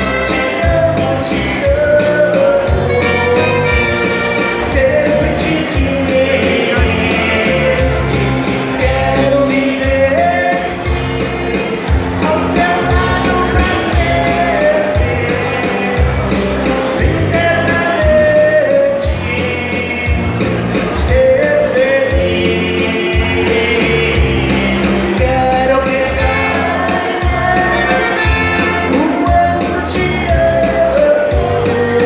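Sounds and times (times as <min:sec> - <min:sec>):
drums: 0:00.0 - 0:32.0
electric bass: 0:00.0 - 0:32.0
man singing: 0:00.0 - 0:32.0.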